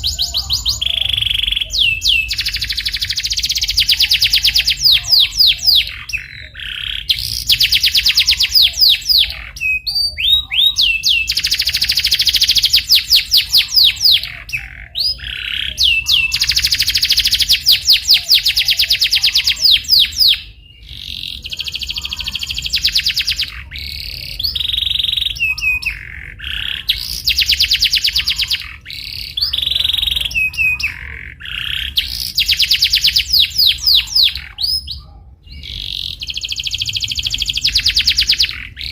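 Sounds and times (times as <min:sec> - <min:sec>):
canary chirps: 0:00.0 - 0:38.9
canary trilling: 0:00.0 - 0:38.9.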